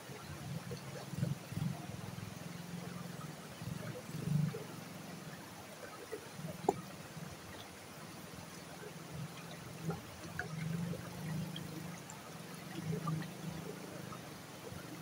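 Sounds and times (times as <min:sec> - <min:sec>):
creek water trickling over rocks: 0:00.0 - 0:15.0.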